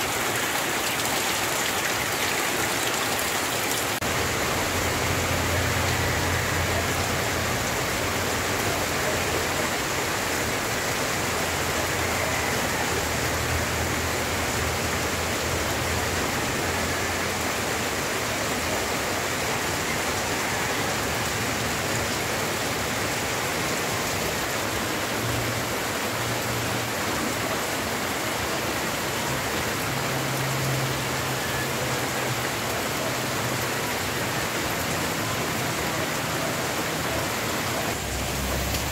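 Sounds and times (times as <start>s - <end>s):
floodwater rushing: 0.0s - 38.9s
heavy rain on foliage: 0.0s - 38.9s.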